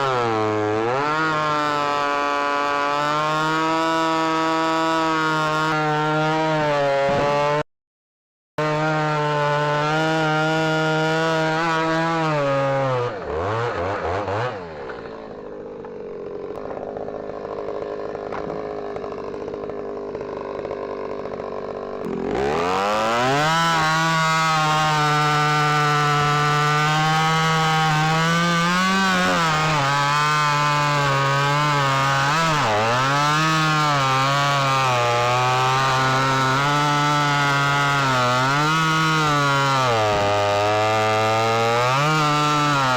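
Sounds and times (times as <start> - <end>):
chainsaw cutting wood: 0.0 - 7.7, 8.6 - 42.9
chainsaw revving and idling: 0.0 - 7.7, 8.6 - 42.9.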